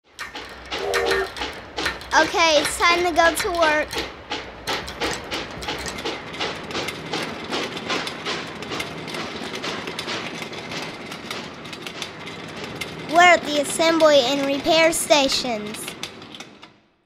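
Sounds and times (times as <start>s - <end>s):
metallic clicks and clanks of train: 0.1s - 16.9s.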